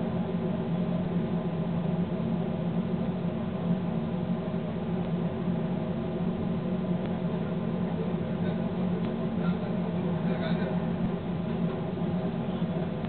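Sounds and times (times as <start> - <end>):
locomotive running gear drone: 0.0 - 13.0.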